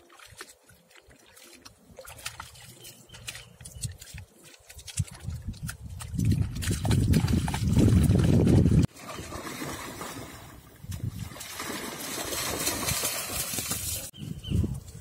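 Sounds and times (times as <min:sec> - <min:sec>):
dogs splashing through water: 0:00.0 - 0:14.2.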